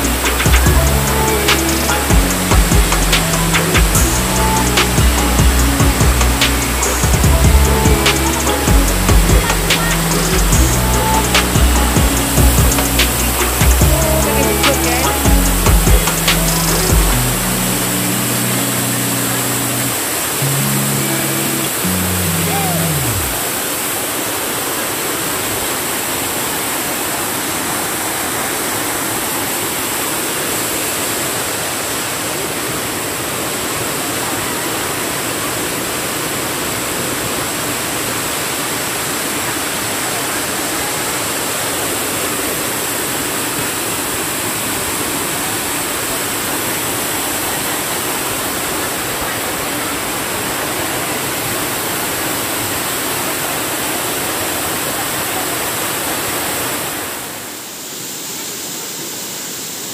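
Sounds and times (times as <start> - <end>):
waterfall pouring over rocks: 0.0 - 59.9.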